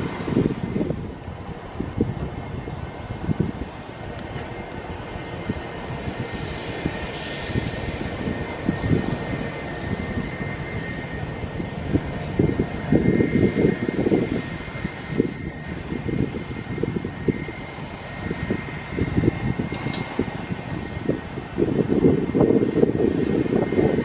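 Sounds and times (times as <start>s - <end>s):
airplane engine rumble and whine: 0.0s - 24.0s.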